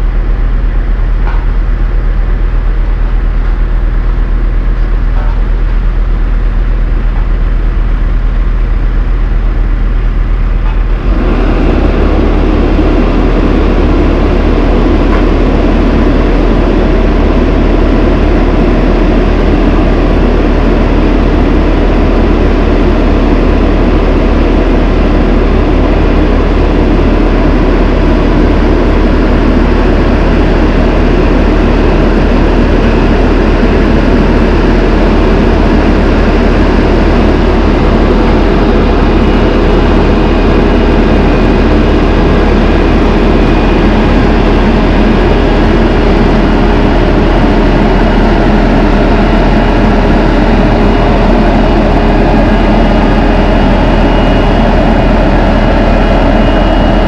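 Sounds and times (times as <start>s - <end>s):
road roller diesel engine: 0.0s - 57.0s.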